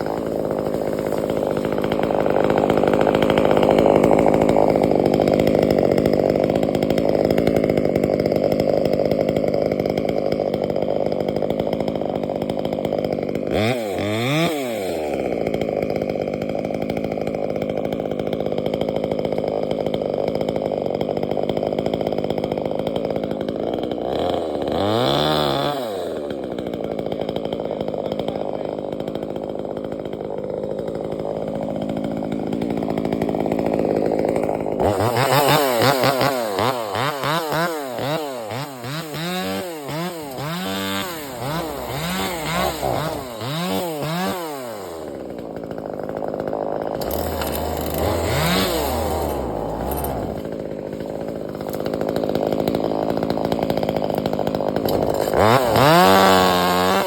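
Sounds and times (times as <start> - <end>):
chainsaw engine idling and revving: 0.0 - 57.0.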